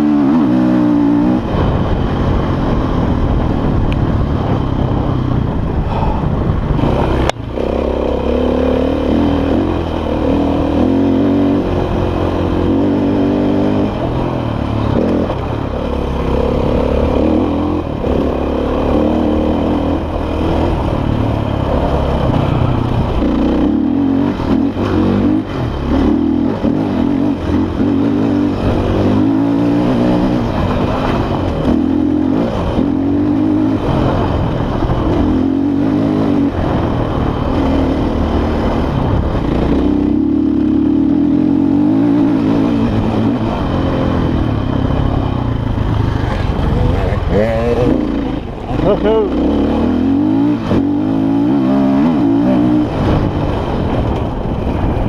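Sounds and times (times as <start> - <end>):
dirt bike engine revving: 0.0 - 54.6.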